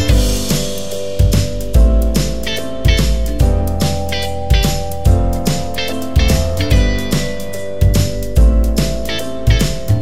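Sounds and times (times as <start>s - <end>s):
guitar music over a steady beat: 0.0s - 10.0s.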